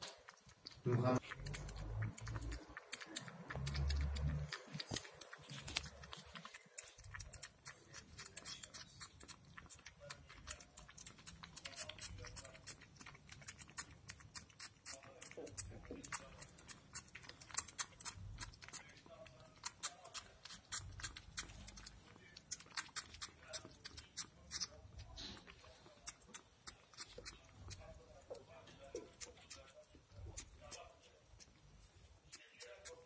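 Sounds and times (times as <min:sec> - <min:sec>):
kittens lapping milk: 0:00.0 - 0:33.0.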